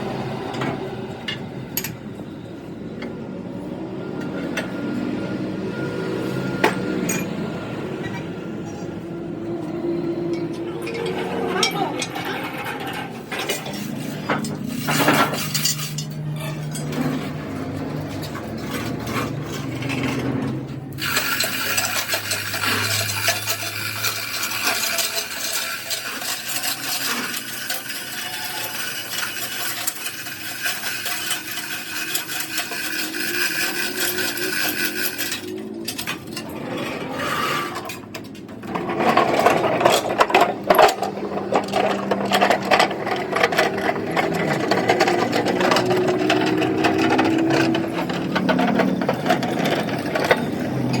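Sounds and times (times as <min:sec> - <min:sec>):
metal tools clinking and clattering: 0:07.0 - 0:07.3, 0:10.2 - 0:51.0.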